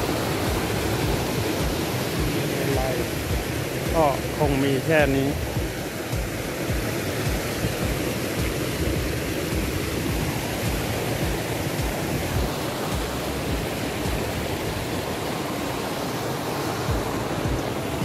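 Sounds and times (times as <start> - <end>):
stream rushing over stones: 0.0 - 18.0.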